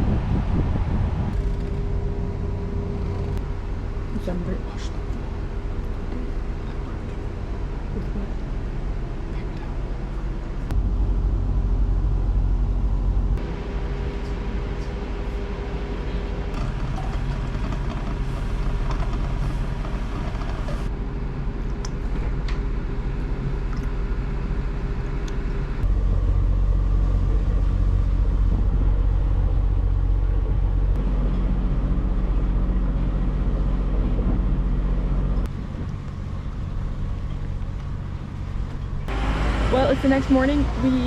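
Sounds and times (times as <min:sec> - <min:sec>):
motor rumbling: 0:00.0 - 0:41.0.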